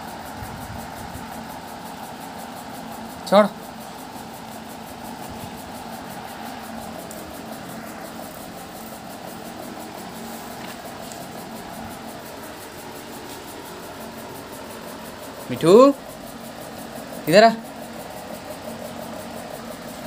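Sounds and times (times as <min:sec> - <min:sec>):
steady hum with hiss: 0:00.0 - 0:20.0.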